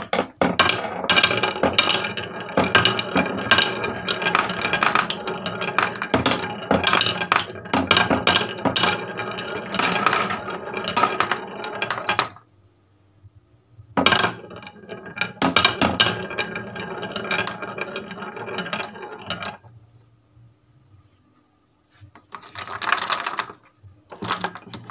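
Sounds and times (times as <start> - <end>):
marbles rattling down wooden track: 0.0 - 12.4, 14.0 - 19.7, 22.2 - 24.9.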